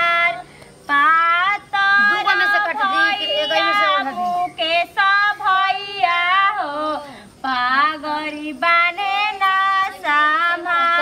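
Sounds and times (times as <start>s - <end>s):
woman singing folk song: 0.0s - 11.0s.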